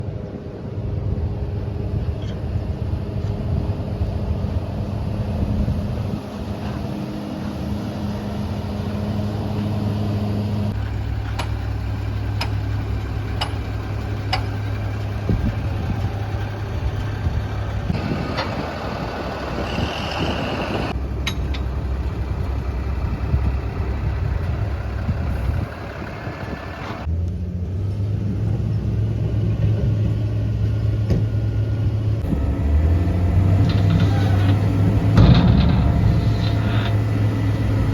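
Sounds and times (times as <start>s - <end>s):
diesel truck engine running: 0.6s - 37.9s.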